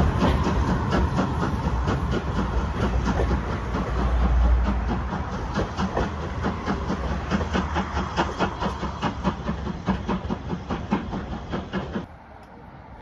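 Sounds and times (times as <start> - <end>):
train wheels clickety-clack: 0.0 - 12.6
low train rumble: 0.0 - 13.0.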